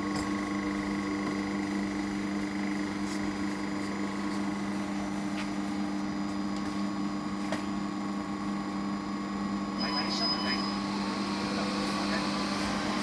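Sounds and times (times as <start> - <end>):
transformer electrical hum: 0.0 - 13.0.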